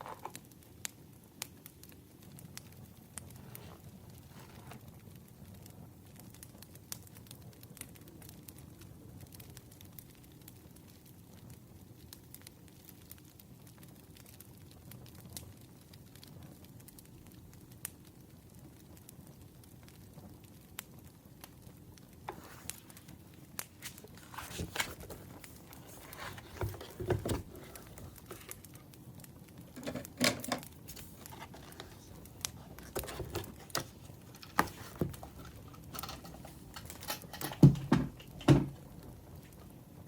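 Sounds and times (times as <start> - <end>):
firewood crackling and popping: 0.0 - 26.9, 27.5 - 40.0.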